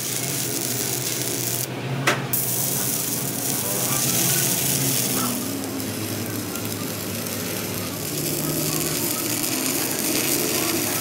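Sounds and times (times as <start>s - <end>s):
arc welding crackling: 0.0s - 1.7s, 2.3s - 11.0s.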